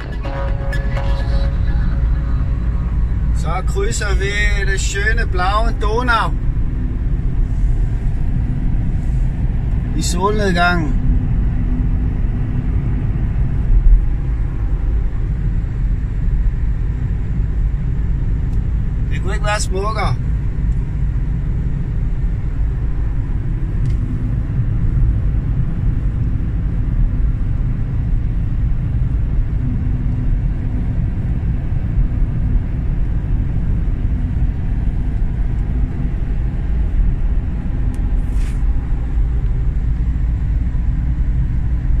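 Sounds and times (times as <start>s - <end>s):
car driving rumble inside cabin: 0.0s - 42.0s.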